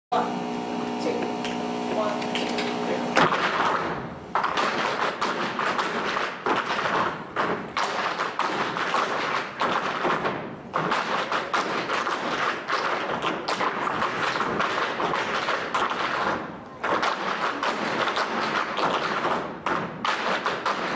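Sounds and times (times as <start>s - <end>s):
tap shoes striking stage floor: 1.2s - 20.9s.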